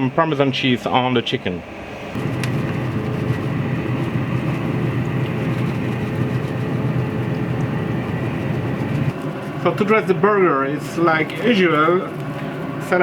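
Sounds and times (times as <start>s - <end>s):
pellet grill fan rushing rumble: 0.0s - 13.0s.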